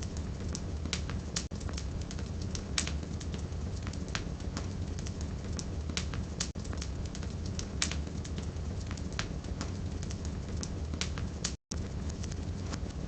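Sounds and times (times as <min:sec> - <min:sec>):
fire rumbling and hissing: 0:00.0 - 0:13.0
firewood popping and crackling: 0:00.0 - 0:13.0.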